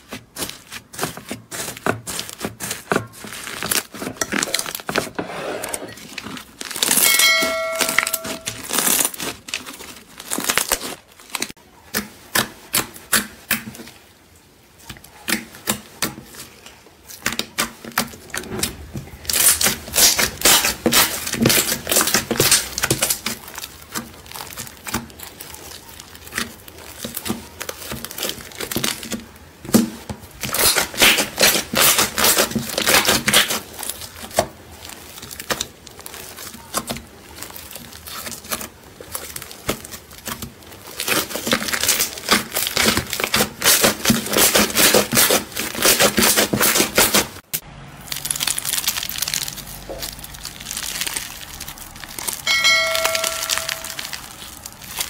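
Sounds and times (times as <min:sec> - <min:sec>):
slime popping and crackling: 0:00.0 - 0:05.1, 0:06.0 - 0:14.0, 0:14.8 - 0:55.0.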